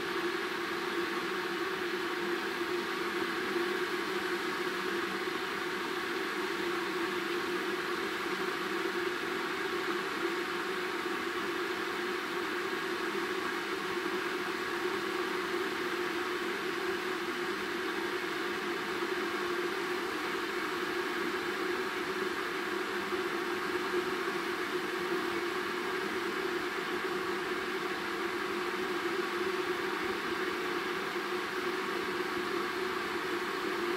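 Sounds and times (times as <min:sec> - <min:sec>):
electric kettle hissing: 0:00.0 - 0:33.9.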